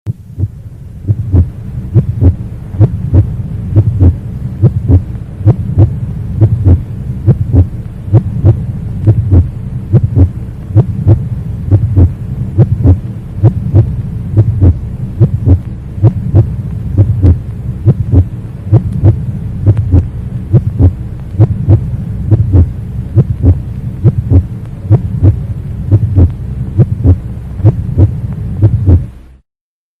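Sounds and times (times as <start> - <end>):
heartbeat thuds: 0.1 - 29.1
constant low hum: 0.1 - 29.4.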